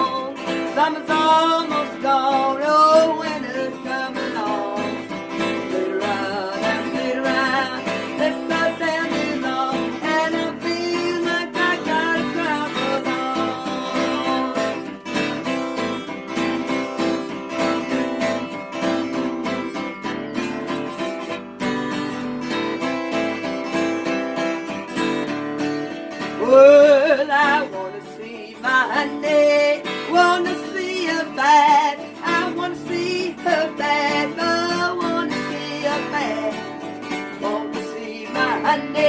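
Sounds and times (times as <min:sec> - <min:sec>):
acoustic guitar strummed: 0:00.0 - 0:39.0.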